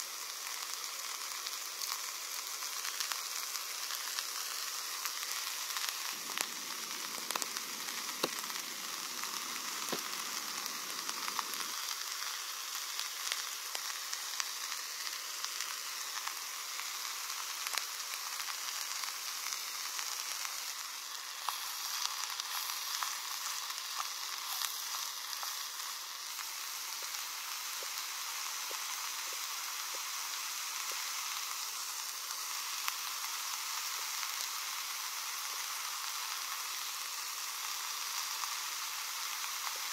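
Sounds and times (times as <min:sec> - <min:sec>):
food sizzling in a pot: 0:00.0 - 0:39.9.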